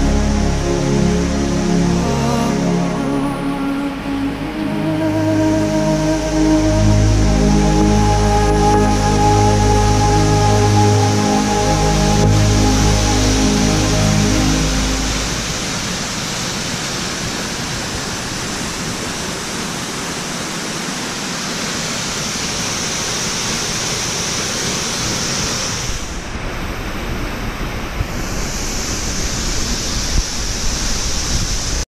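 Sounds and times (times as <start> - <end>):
waterfall rushing: 0.0 - 31.8.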